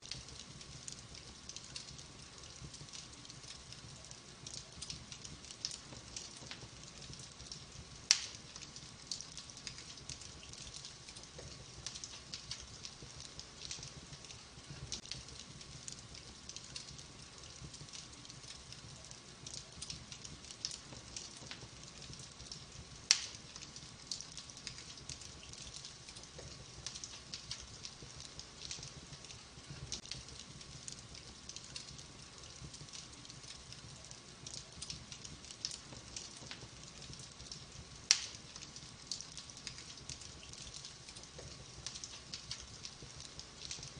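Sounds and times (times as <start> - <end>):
sharp fire pops: 0.0 - 43.9
wood fire crackling: 0.0 - 43.9.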